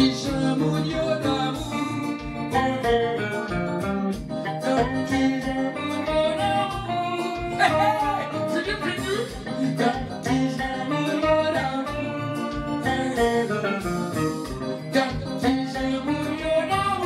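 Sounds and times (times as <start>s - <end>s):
man singing: 0.0s - 3.6s, 4.5s - 17.0s
electric guitar melody: 0.0s - 17.0s
steady beat: 0.0s - 17.0s.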